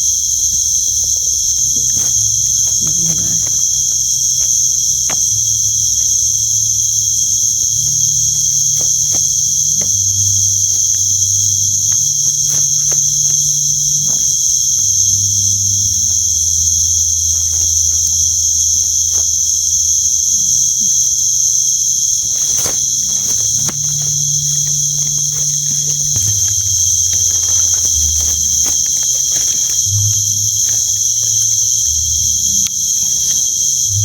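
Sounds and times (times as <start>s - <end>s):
light clicks and rustles: 0.0s - 34.0s
night insects trilling: 0.0s - 34.0s.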